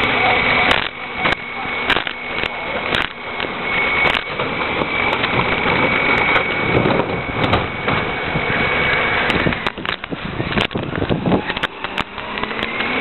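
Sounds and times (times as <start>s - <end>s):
garbage truck engine running: 0.0s - 13.0s
high-pitched whine: 0.0s - 13.0s.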